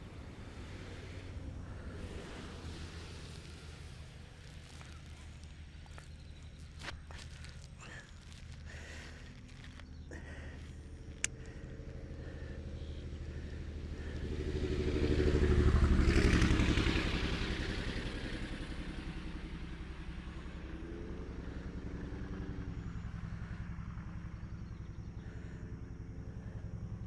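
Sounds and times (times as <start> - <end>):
vehicle passing: 0.0 - 26.8
faint engine bending in pitch: 0.0 - 27.0
low drone: 0.0 - 27.0.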